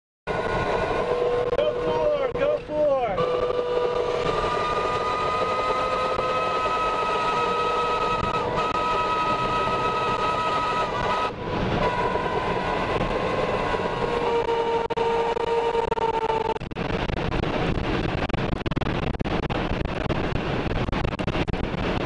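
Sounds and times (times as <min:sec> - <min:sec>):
wind rushing: 0:00.3 - 0:22.0
wind whistling tones: 0:00.3 - 0:22.0.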